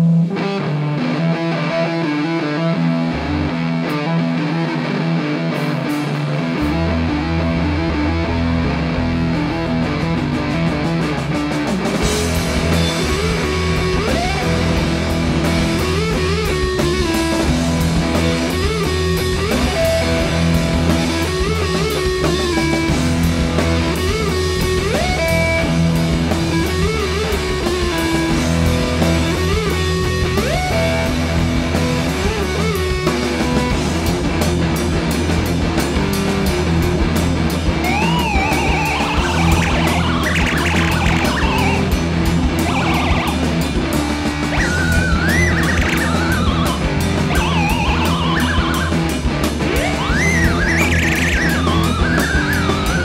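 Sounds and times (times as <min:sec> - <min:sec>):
live rock band playing: 0:00.0 - 0:53.0
wavering lead guitar line: 0:00.0 - 0:53.0.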